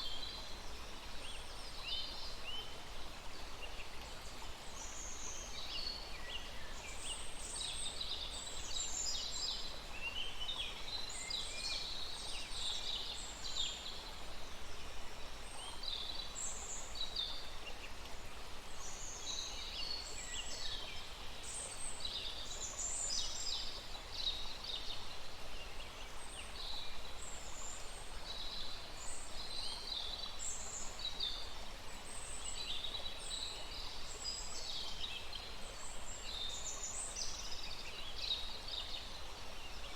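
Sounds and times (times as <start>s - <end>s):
small stream rushing: 0.0s - 39.9s.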